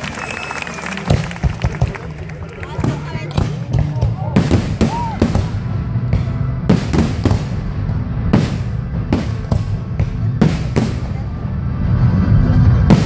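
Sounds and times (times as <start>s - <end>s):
music playing: 0.0s - 13.0s
fireworks bangs: 0.8s - 11.4s, 12.8s - 13.0s
low rumble: 1.0s - 13.0s.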